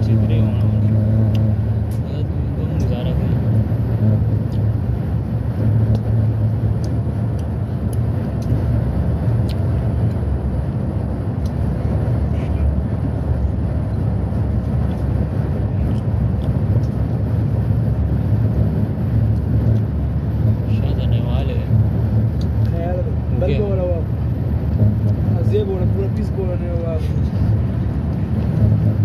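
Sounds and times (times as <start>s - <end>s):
low engine hum: 0.0s - 29.0s
tyre and road noise: 0.0s - 29.0s.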